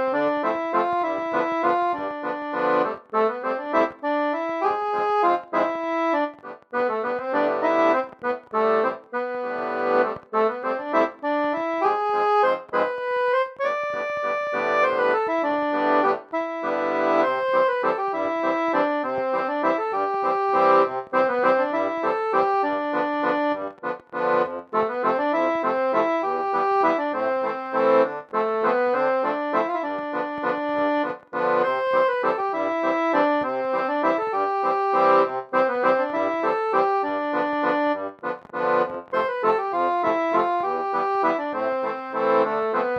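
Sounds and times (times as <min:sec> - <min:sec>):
held chords: 0:00.0 - 0:42.9
lively instrumental melody: 0:00.0 - 0:42.9.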